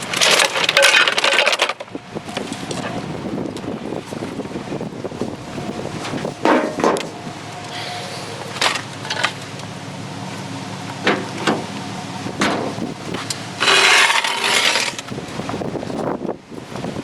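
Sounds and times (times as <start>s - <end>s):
steady low rumble: 1.8s - 17.0s.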